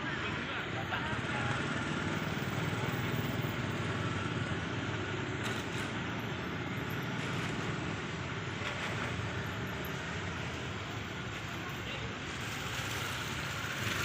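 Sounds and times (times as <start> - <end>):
vehicle rumbling: 0.0 - 14.0.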